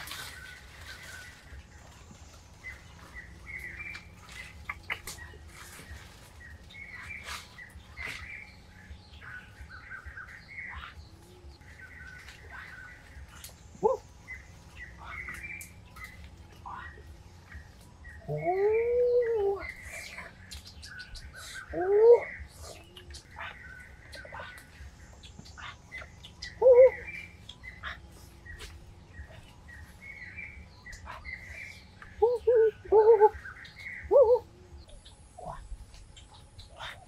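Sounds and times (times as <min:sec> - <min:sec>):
faint low rumble: 0:00.0 - 0:37.0
small birds chirping: 0:00.0 - 0:37.0.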